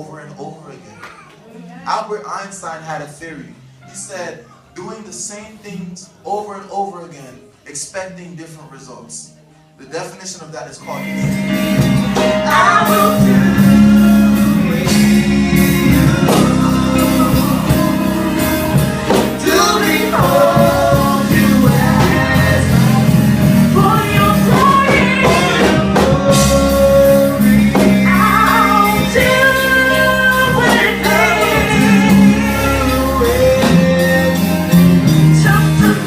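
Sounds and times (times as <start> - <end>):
gospel music with singing: 0.0 - 36.0.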